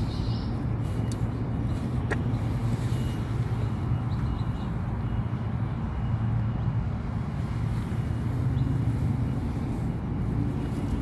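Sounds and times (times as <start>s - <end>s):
city road traffic rumble: 0.0s - 11.0s.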